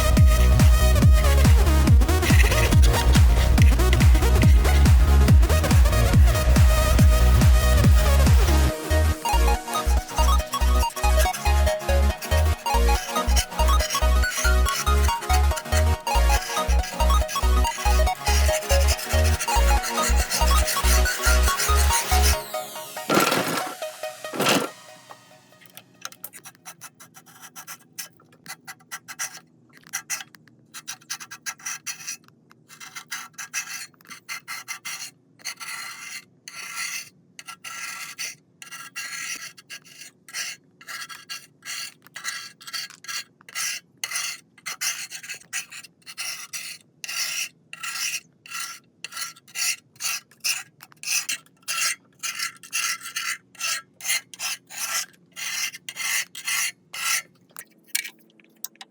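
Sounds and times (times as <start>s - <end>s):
hand tool rasping on metal: 0.0s - 24.7s, 26.6s - 57.4s.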